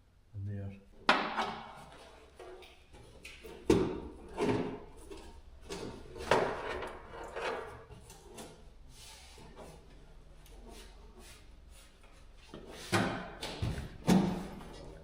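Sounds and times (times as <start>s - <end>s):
rustling and scraping: 1.6s - 15.0s.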